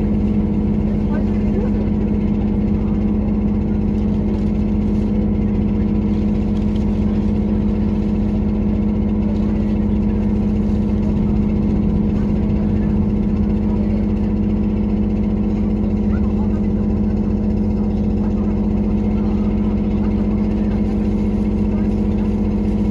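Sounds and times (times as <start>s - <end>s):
diesel railcar engine humming: 0.0s - 22.9s.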